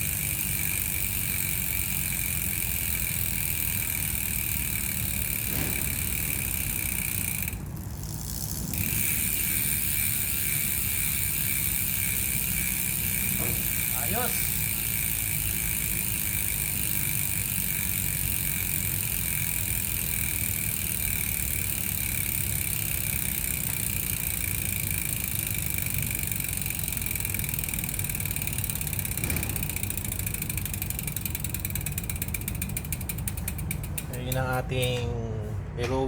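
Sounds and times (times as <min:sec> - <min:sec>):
bicycle hub freewheeling clicks: 0:00.0 - 0:35.0.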